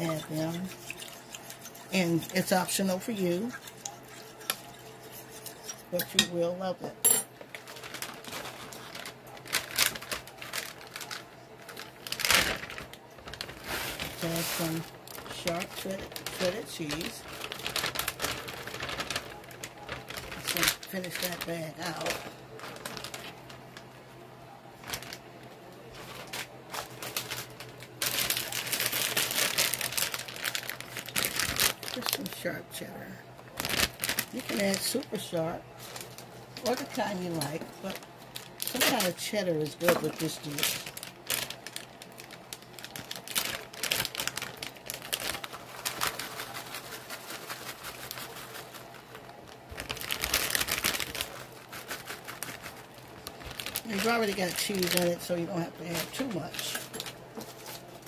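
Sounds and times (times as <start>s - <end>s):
plastic bag crinkling: 0.0s - 6.1s, 7.3s - 24.0s, 24.7s - 58.0s.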